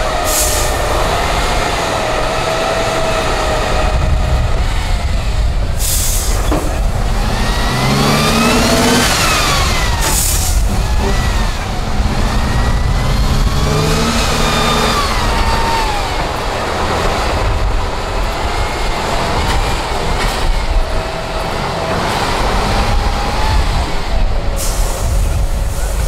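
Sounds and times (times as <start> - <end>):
diesel truck engine under load: 0.0 - 26.0.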